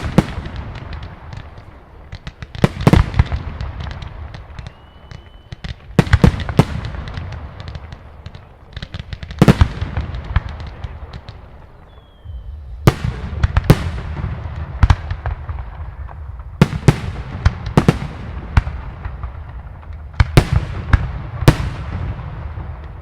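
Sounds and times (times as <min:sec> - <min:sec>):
fireworks heavy bangs: 0:00.0 - 0:23.0.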